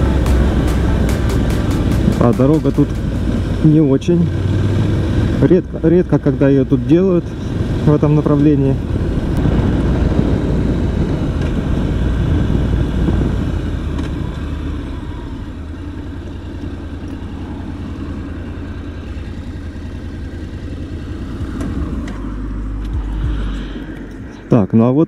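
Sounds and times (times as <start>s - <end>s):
motorcycle engine running: 0.0s - 24.2s
wind and road noise: 0.0s - 25.0s.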